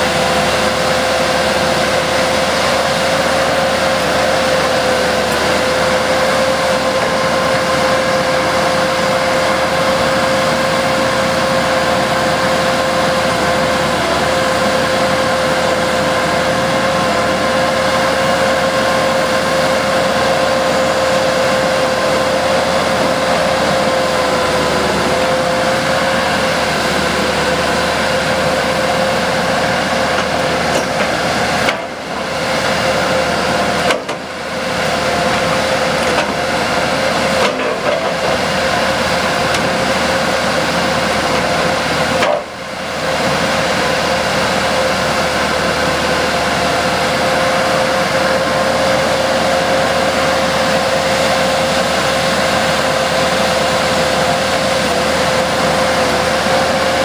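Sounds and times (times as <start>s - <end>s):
crane engine hum: 0.0s - 57.0s
steady whining tone: 0.0s - 57.0s.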